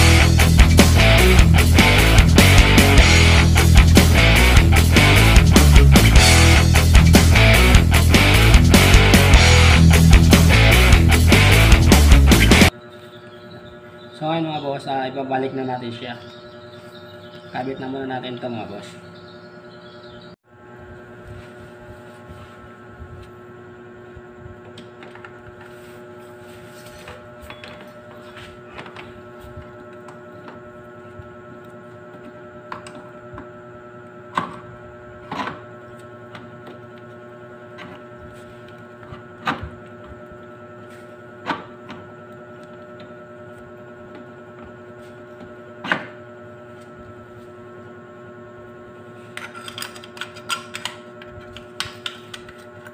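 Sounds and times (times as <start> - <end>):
steady electrical hum: 0.0 - 52.9.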